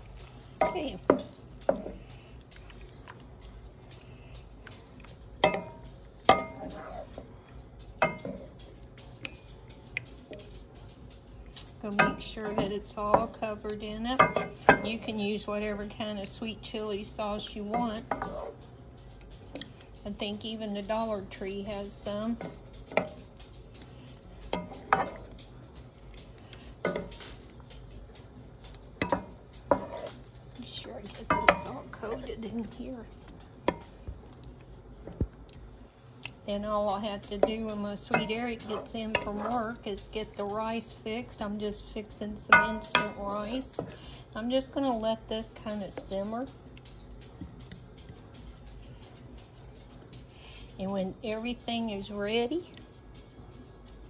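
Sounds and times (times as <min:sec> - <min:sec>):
wet squishing of stirred food: 0:00.0 - 0:50.3.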